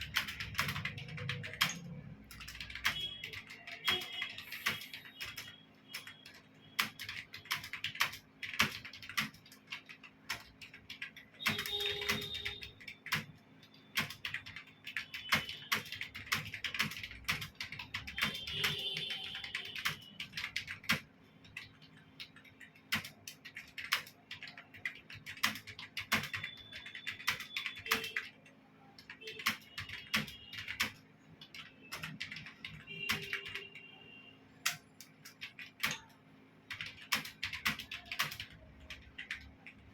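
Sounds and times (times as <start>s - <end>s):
fast typing on a keyboard: 0.0s - 33.9s, 34.6s - 39.9s.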